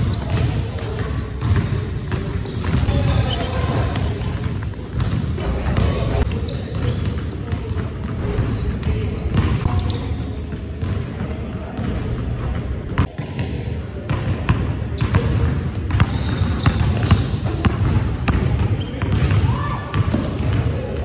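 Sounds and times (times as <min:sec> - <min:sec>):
basketballs bouncing on hardwood: 0:00.0 - 0:09.8, 0:10.6 - 0:20.7
sneakers squeaking on court: 0:00.0 - 0:20.7.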